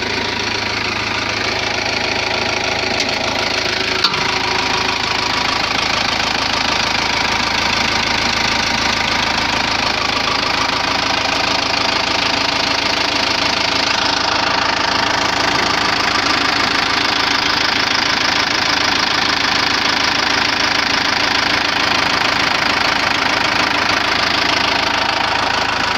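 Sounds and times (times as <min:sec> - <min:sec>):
diesel engine idling with clatter: 0:00.0 - 0:25.9.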